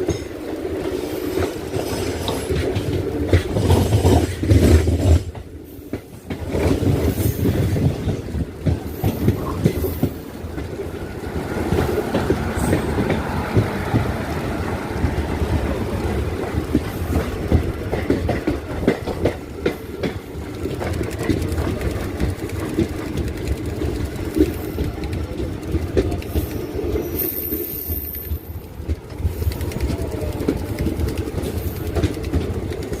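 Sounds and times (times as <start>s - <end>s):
train wheels clattering over joints: 0.0s - 33.0s.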